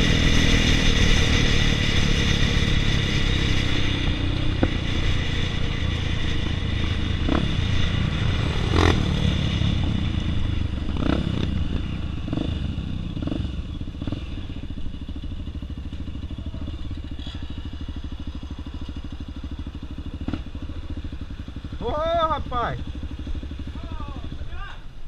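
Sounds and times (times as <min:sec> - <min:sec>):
engine knocks and clatter: 0:00.0 - 0:24.5
dirt bike engine running: 0:00.0 - 0:24.9.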